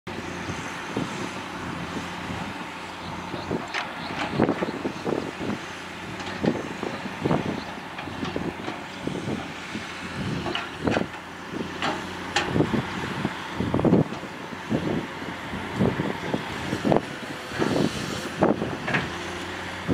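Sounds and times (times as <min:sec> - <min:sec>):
excavator diesel engine running: 0:00.1 - 0:19.9.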